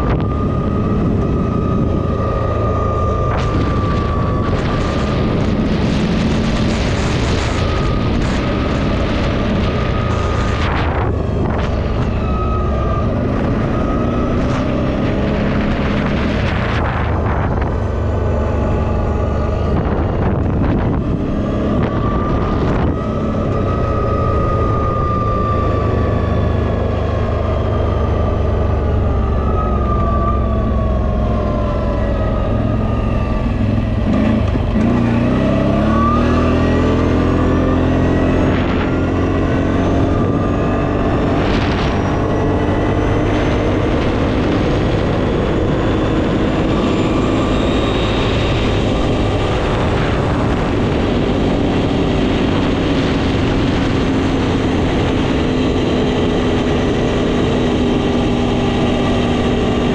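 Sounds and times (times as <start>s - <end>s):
all-terrain vehicle engine revving: 0.0s - 59.9s
wind buffeting microphone: 0.0s - 59.9s.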